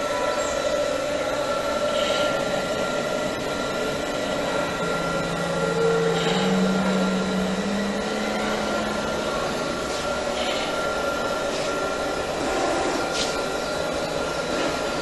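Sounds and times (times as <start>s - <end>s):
low tone: 0.0s - 15.0s
model trains whirring hum: 0.0s - 15.0s.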